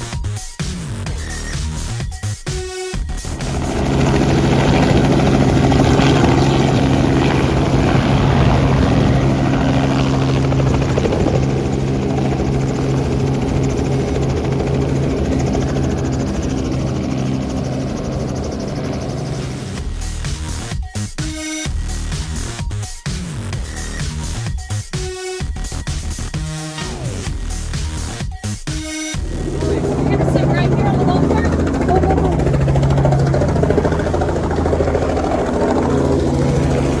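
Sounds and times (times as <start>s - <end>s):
helicopter rotor chop and drone: 0.0s - 37.0s.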